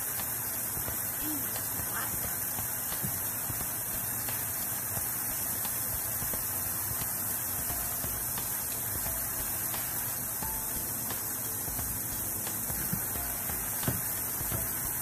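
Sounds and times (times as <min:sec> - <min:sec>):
water running from hose: 0:00.0 - 0:15.0.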